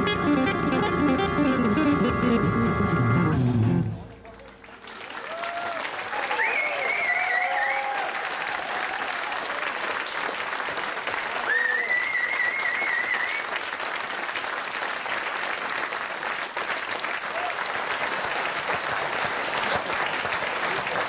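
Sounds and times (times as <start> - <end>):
studio audience applauding: 4.0 - 21.0.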